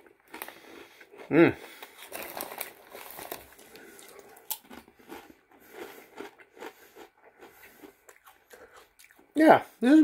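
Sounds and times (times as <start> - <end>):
person crunching chips: 0.0 - 9.3.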